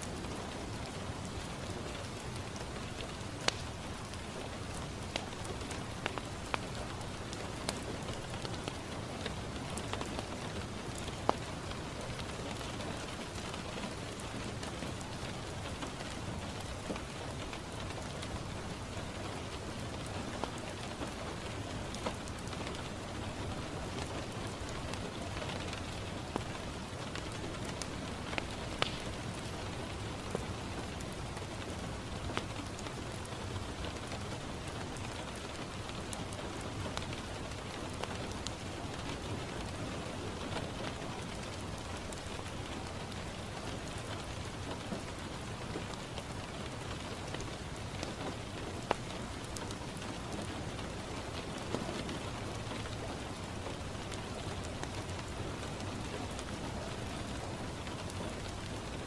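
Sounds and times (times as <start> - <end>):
rain on a window pane: 0.0 - 59.0
wood fire crackling and popping: 0.0 - 59.0.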